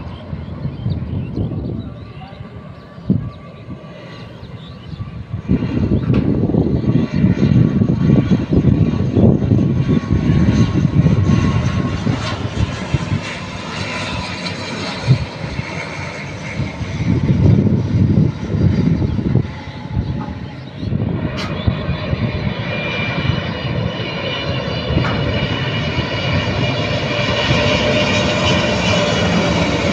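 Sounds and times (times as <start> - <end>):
airliner engine rumble: 0.0 - 29.9.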